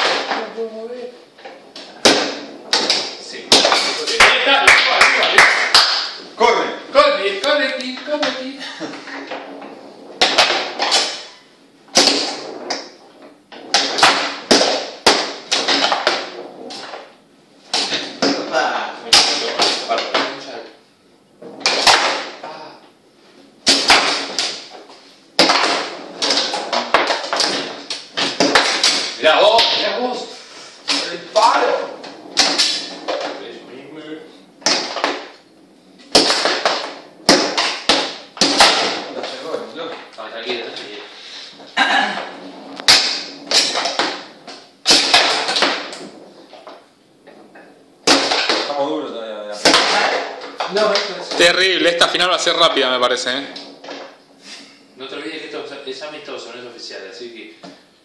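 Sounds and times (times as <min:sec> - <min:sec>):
foosball players striking ball: 0:00.0 - 0:58.0.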